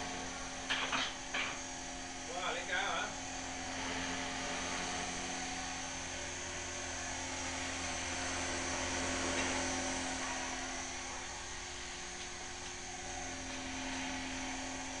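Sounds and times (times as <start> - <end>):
rc helicopter whine: 0.0 - 15.0.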